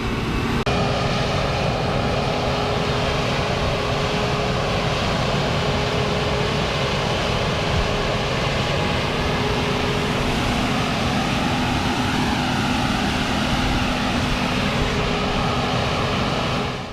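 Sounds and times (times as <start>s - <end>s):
heavy machine engine droning: 0.0s - 16.9s.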